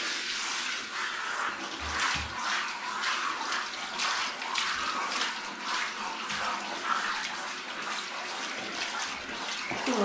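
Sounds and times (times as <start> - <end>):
shower water spraying: 0.0 - 10.0.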